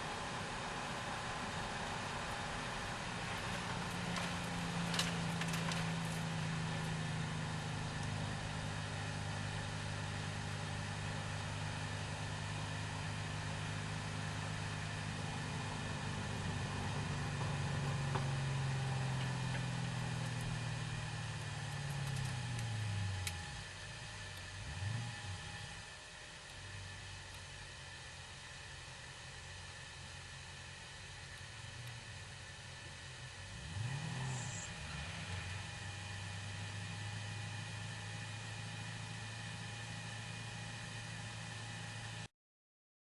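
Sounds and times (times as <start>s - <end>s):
car engine running at low revs: 0.0s - 42.3s.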